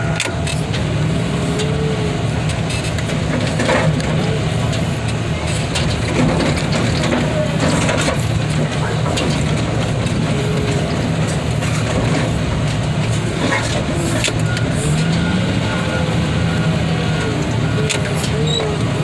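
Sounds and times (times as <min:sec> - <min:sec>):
heavy equipment engine running: 0:00.0 - 0:19.0.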